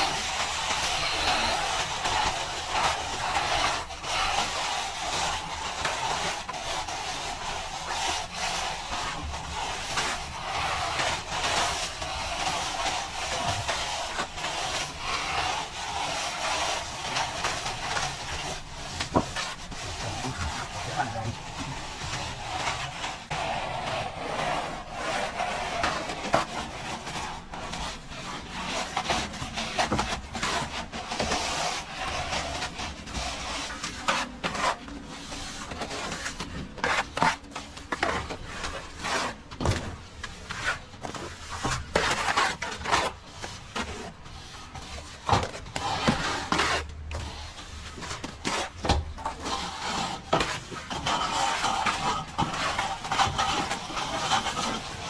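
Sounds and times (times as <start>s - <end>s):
trowel scraping plaster: 0.0s - 55.0s.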